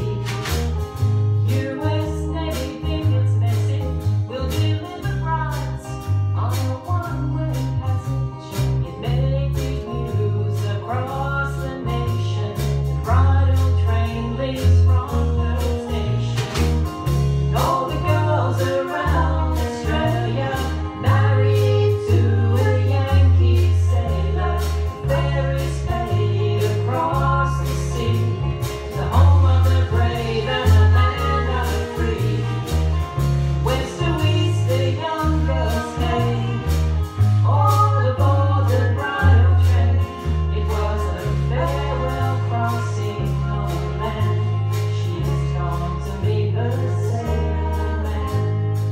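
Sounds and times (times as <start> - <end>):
drum kit: 0.0 - 48.9
electric and acoustic guitars: 0.0 - 48.9
low bass line: 0.0 - 48.9
women singing: 1.4 - 16.8, 17.5 - 33.0, 33.6 - 48.9.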